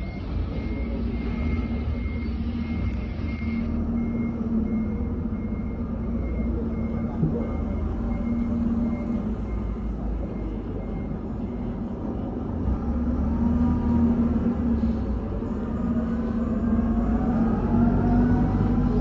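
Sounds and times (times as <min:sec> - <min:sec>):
forklift engine running: 0:00.0 - 0:19.0.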